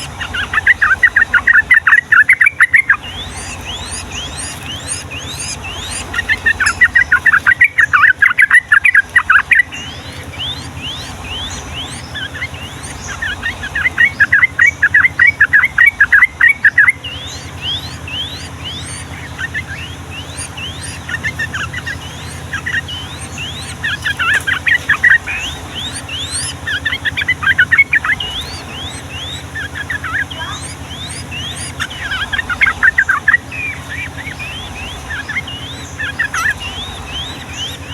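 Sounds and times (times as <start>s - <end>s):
bulbuls chattering: 0.0s - 37.9s
short rising bird notes: 0.0s - 37.9s.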